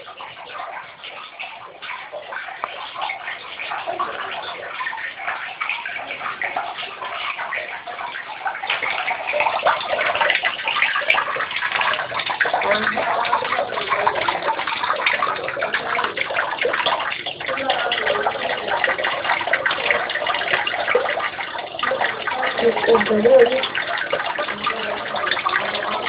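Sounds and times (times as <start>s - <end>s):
fish splashing in pond: 0.0s - 26.0s.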